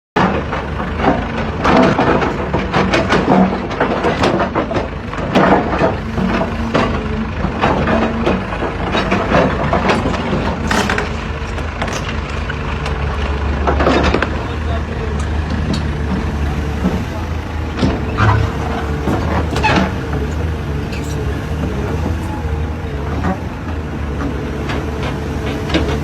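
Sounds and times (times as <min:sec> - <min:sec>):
sharp metal clanks and knocks: 0:00.2 - 0:23.4
low engine rumble: 0:00.2 - 0:26.0.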